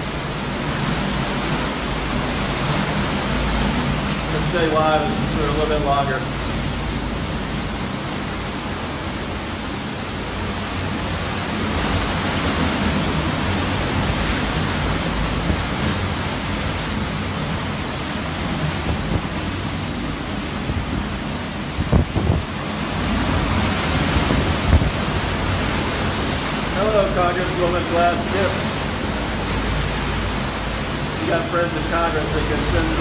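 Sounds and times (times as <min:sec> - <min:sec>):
driving rain: 0:00.0 - 0:33.0
hurricane wind: 0:00.0 - 0:33.0.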